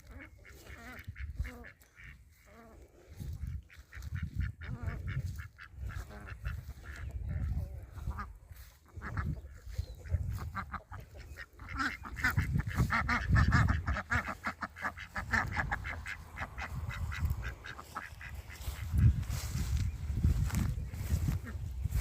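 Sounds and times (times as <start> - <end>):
ducks quacking: 0.0 - 22.0.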